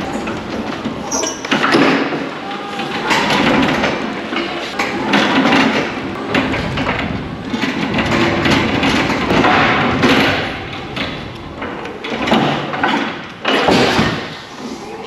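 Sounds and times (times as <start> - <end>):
pallet truck rattling and clunking: 0.0 - 14.4.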